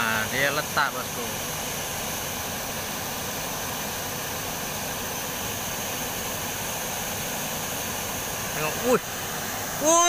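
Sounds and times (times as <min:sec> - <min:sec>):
river water pouring over a weir: 0:00.0 - 0:10.0.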